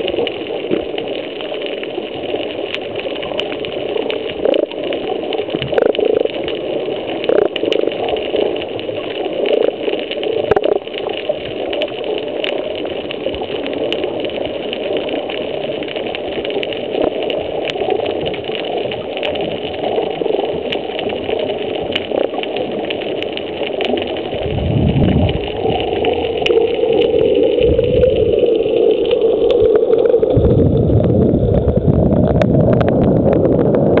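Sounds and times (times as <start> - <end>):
faint clicks: 0.0 - 30.5
scuba exhaust bubbles rumbling: 0.0 - 34.0
muffled underwater hum: 3.1 - 34.0.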